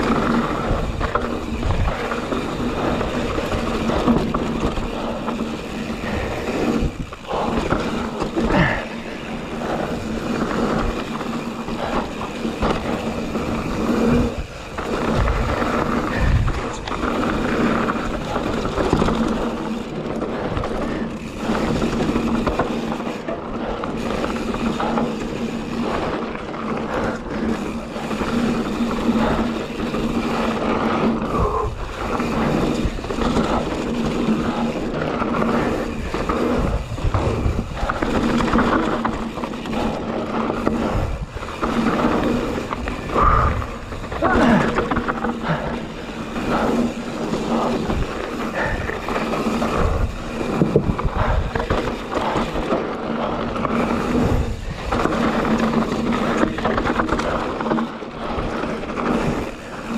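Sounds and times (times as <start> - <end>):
bike rattles and knocks: 0.0 - 59.9
bike tyres on dirt: 0.0 - 59.9.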